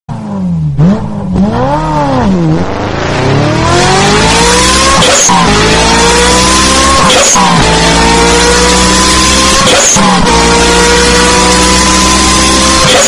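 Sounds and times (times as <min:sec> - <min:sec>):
two-stroke engine revving: 0:00.5 - 0:13.0.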